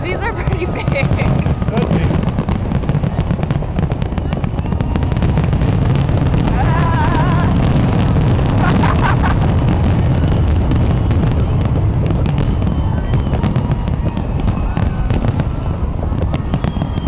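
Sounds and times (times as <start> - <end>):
low rumble: 0.0 - 16.7
fireworks bursting and crackling: 0.0 - 17.0.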